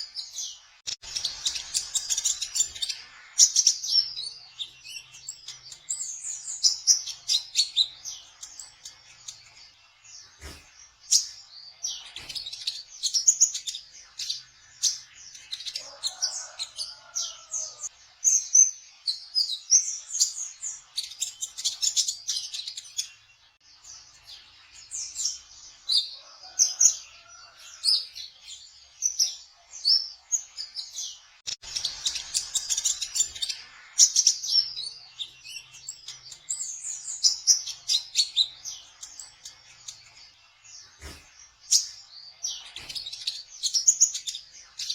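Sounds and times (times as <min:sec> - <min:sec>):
bird rapid high chirps: 0:00.0 - 0:23.3, 0:31.5 - 0:44.9.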